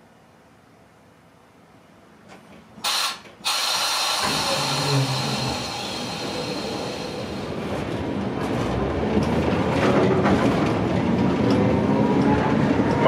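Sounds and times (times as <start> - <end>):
tram rolling noise: 0.1 - 13.0.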